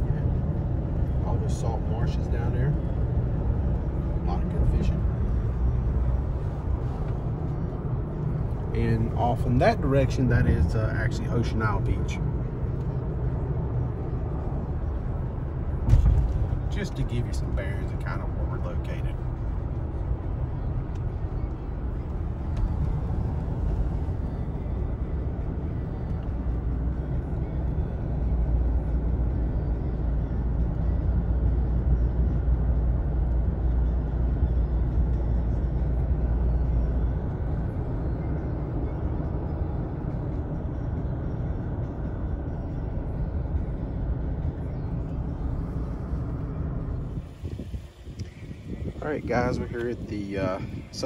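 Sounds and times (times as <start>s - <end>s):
vehicle road and engine rumble: 0.0s - 51.0s.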